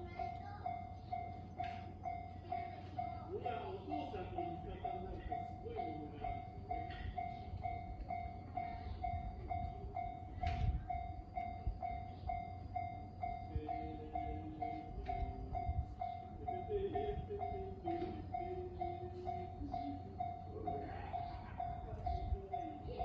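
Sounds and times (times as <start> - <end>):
level crossing warning bell: 0.0 - 23.0
train rumbling past: 0.0 - 23.0.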